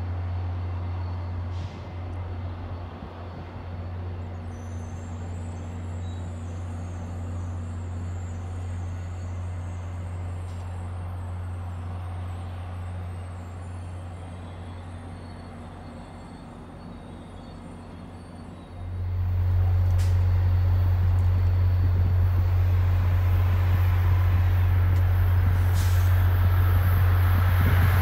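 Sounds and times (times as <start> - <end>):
diesel train engine drone: 0.0 - 28.0.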